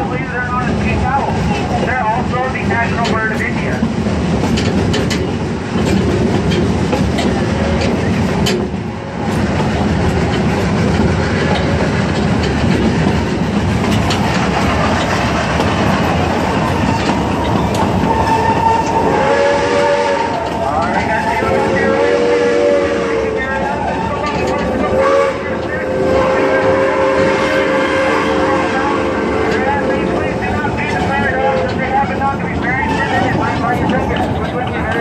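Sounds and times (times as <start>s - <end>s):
clickety-clack over rail joints: 0.0s - 35.0s
train wheels rumbling: 0.0s - 35.0s.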